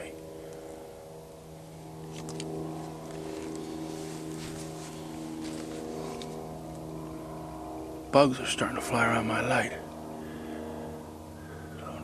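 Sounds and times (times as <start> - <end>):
distant plane engine drone: 0.0 - 12.0.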